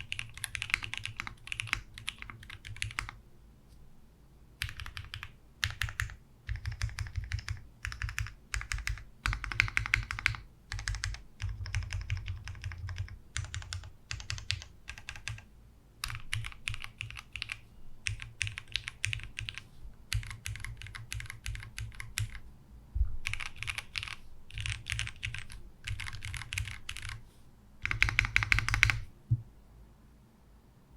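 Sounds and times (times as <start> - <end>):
mechanical keyboard typing: 0.0 - 3.2, 4.6 - 22.4, 23.2 - 27.2, 27.8 - 29.1.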